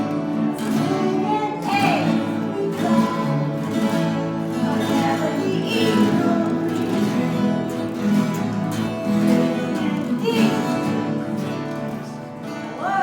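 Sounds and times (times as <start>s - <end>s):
acoustic guitars strumming chords: 0.0s - 13.0s.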